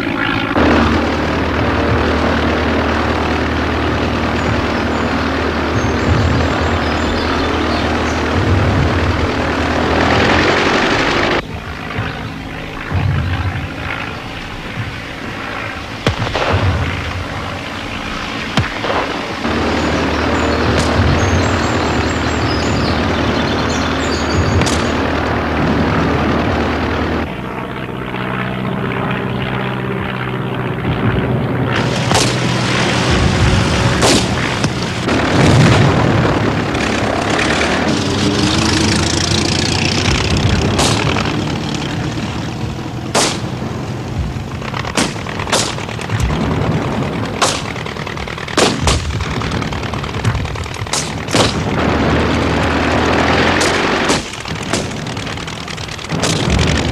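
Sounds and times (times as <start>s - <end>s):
continuous rumble: 0.0s - 56.9s
engine drone: 0.0s - 56.9s
booming explosions: 0.5s - 27.3s, 30.8s - 56.9s
gunshots: 1.8s - 22.9s, 24.3s - 26.2s, 31.7s - 38.2s, 40.0s - 56.9s.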